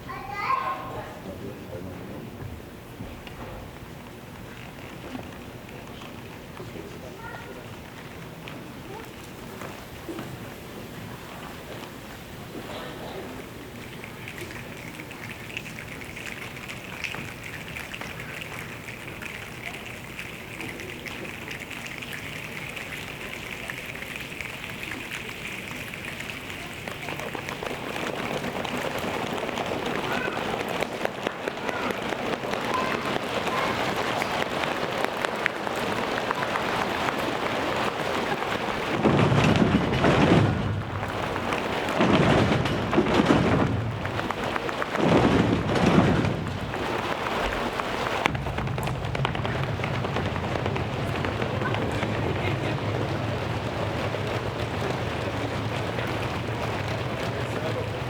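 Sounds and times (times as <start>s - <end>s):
thunder rumbles: 1.7s - 58.0s
choir imitating rain: 2.3s - 58.0s.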